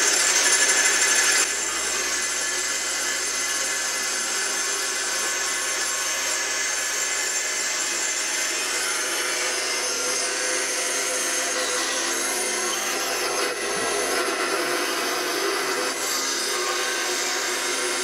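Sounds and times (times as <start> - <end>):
bandsaw cutting wood: 0.0 - 18.0.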